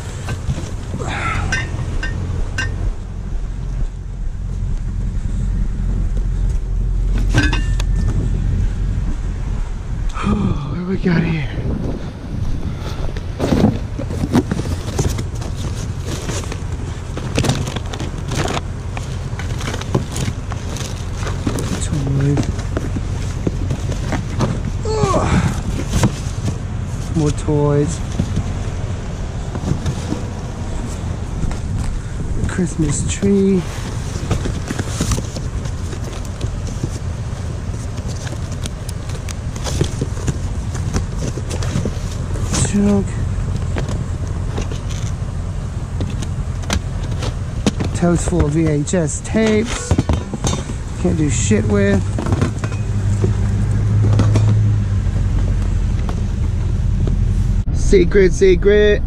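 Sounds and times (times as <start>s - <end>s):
cardboard boxes crackling and scraping: 0.0s - 2.8s, 11.1s - 57.7s
steady low rumble: 0.0s - 59.0s.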